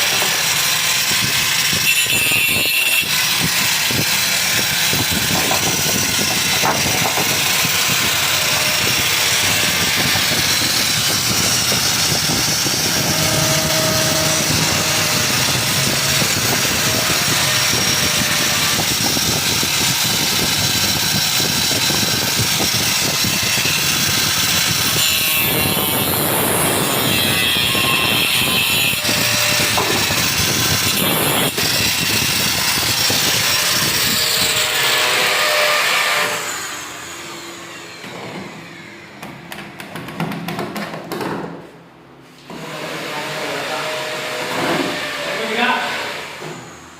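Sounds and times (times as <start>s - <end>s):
angle grinder cutting wood: 0.0s - 39.2s, 42.5s - 46.8s.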